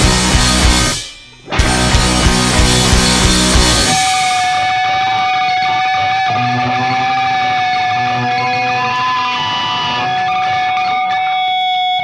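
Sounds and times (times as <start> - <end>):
electric guitar sustained note: 0.0 - 12.0
lower guitar notes: 0.0 - 12.0.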